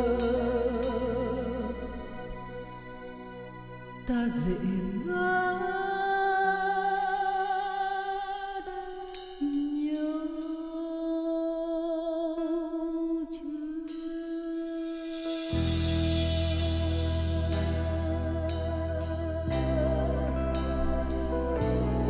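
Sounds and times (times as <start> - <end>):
woman singing with vibrato: 0.0 - 2.4, 4.0 - 22.0
karaoke backing track: 0.0 - 22.0.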